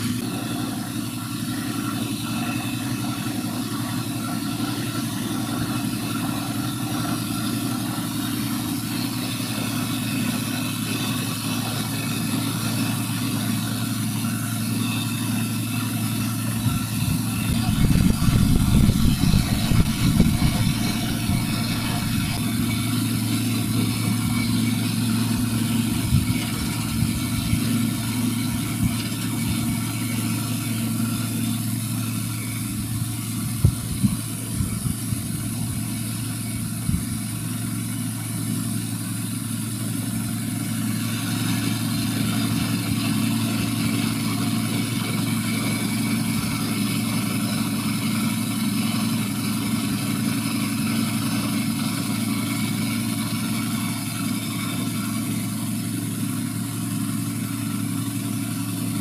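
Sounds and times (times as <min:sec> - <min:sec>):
engine and pump hum: 0:00.0 - 0:59.0.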